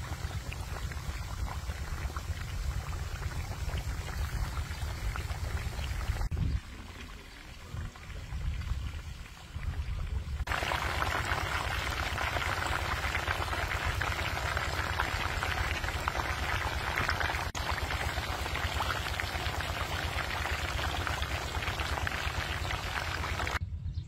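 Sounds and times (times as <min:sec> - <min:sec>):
chicken deep-frying in oil: 0:00.0 - 0:23.6.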